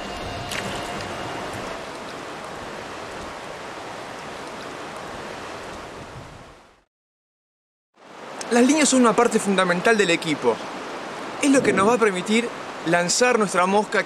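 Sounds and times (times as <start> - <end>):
river water rushing: 0.0 - 6.1, 8.0 - 14.0.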